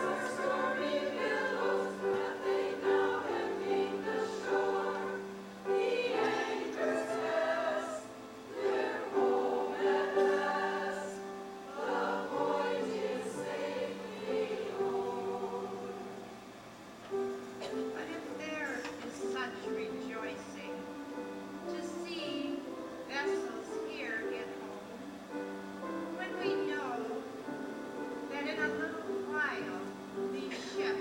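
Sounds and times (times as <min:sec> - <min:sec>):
choir singing held chords: 0:00.0 - 0:17.3, 0:20.5 - 0:31.0.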